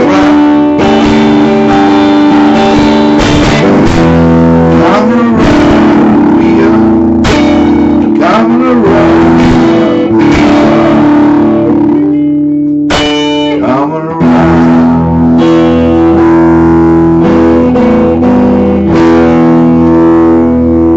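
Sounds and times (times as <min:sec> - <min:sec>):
strummed guitar chords: 0:00.0 - 0:20.9.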